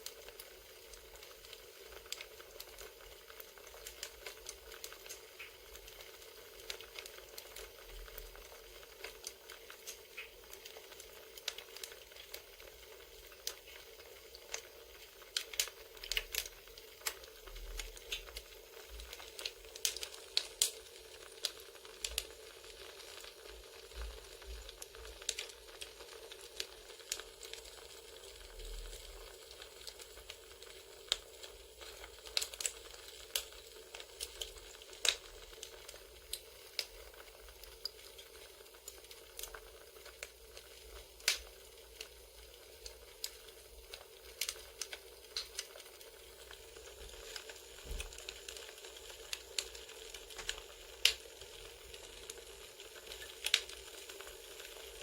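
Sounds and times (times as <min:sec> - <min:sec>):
campfire crackling: 0:00.0 - 0:55.0
soft steady hiss: 0:00.0 - 0:55.0.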